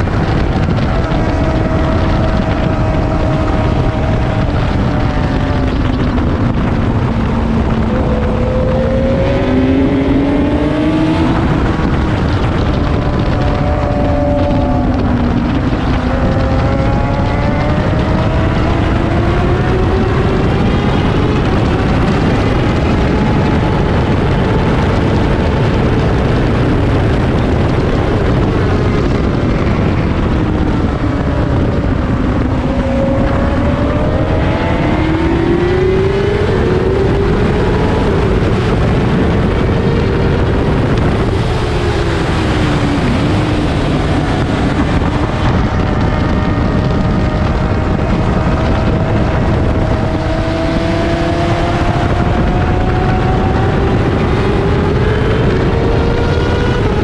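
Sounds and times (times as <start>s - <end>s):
motorcycle engine accelerating: 0.0s - 57.0s
wind noise on microphone: 0.0s - 57.0s.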